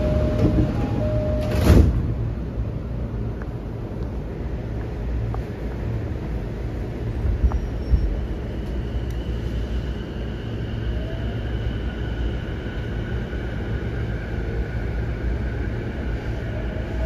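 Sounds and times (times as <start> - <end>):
rumble of train wheels on rail: 0.0 - 17.0.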